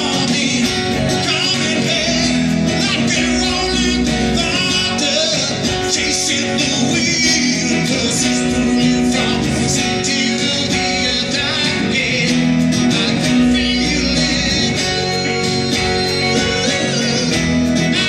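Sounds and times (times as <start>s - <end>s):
electric guitars playing rock: 0.0s - 18.0s.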